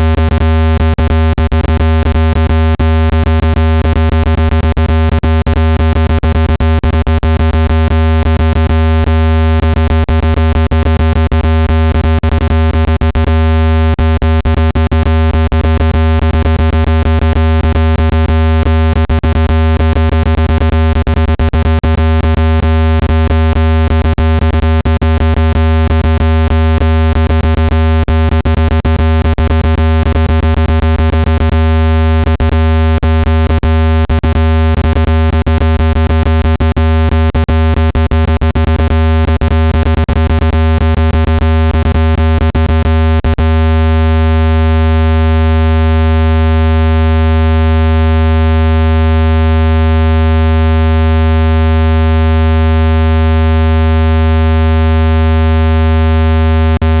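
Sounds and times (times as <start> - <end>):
low electronic buzzing tone: 0.0 - 57.0.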